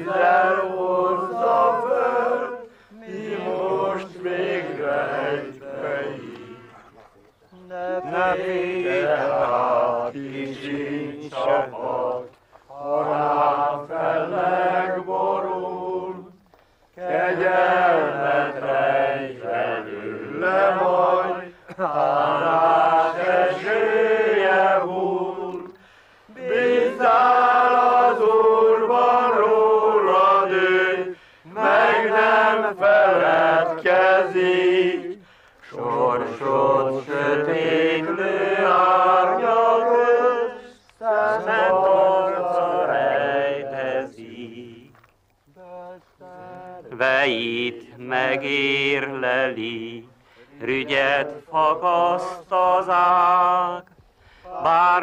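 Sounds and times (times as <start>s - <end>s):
men singing a hymn unaccompanied: 0.0s - 55.0s.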